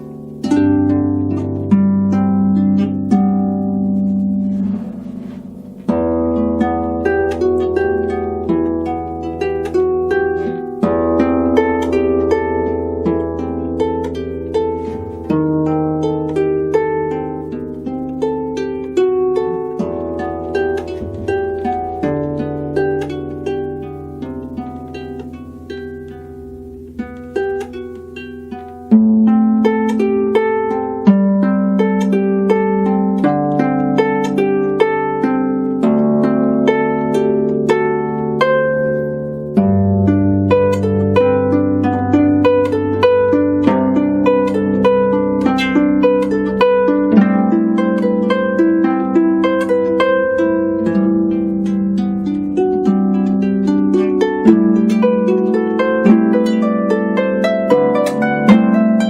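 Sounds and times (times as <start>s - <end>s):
solo harp playing: 0.0s - 59.0s.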